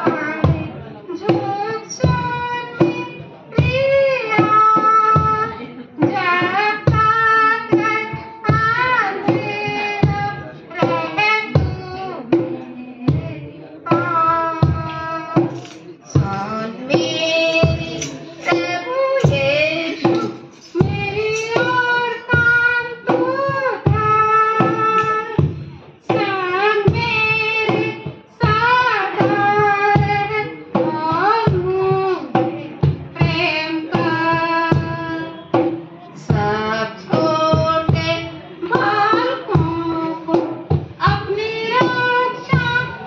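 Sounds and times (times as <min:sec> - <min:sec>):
woman singing: 0:00.0 - 0:43.0.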